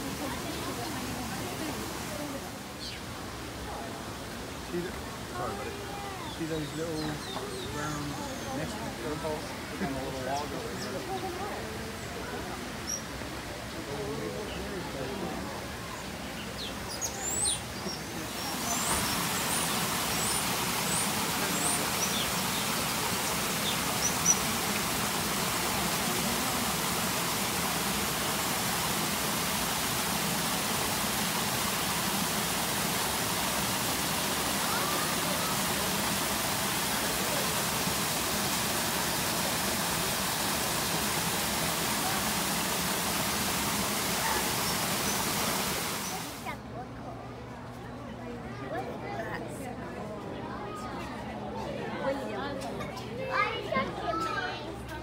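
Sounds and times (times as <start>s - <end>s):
waterfall rushing: 0.0s - 15.9s, 16.8s - 46.5s.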